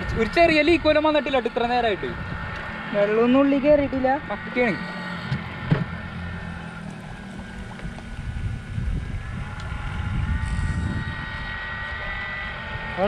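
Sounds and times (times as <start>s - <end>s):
wind rumbling on microphone: 0.0s - 4.4s, 5.3s - 13.0s
drone motors whining: 0.0s - 13.0s.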